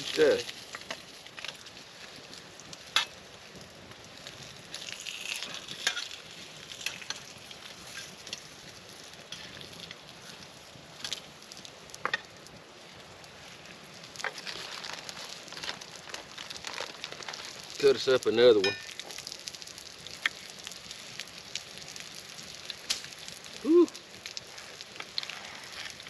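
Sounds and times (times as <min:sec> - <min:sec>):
meat sizzling in a skillet: 0:00.0 - 0:26.0
sharp pops of frying: 0:00.0 - 0:26.0.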